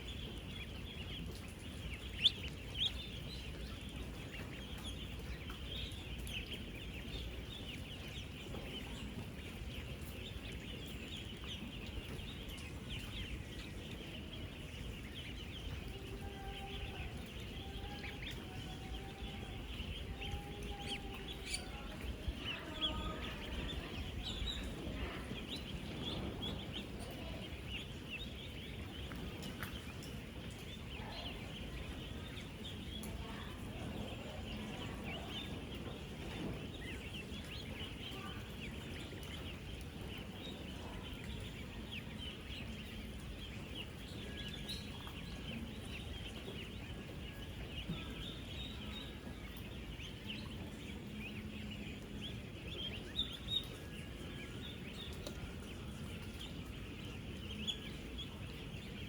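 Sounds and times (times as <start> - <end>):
ducklings peeping: 0.0 - 59.0
low background noise: 0.0 - 59.0.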